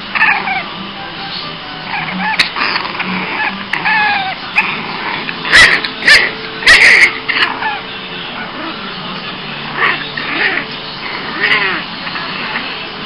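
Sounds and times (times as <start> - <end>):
puppy whining: 0.0 - 12.9
puppy yapping: 0.2 - 0.7, 1.8 - 8.8, 9.8 - 12.7.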